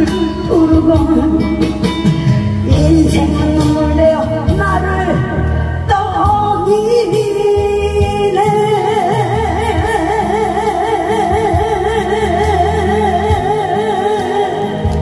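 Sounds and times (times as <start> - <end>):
musical accompaniment: 0.0 - 15.0
person singing: 2.6 - 15.0.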